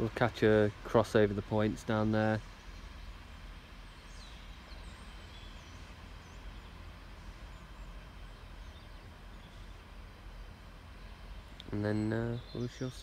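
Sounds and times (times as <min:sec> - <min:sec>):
low outdoor rumble: 0:00.0 - 0:13.0
faint bird chirps: 0:01.9 - 0:13.0.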